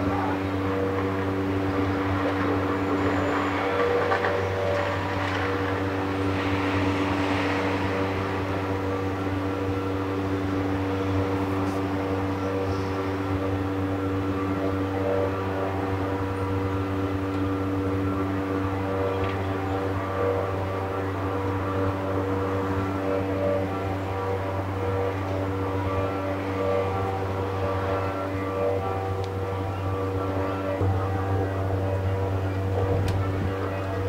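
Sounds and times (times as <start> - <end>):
amplifier hum: 0.0 - 34.0
electric guitar drone: 0.0 - 34.0.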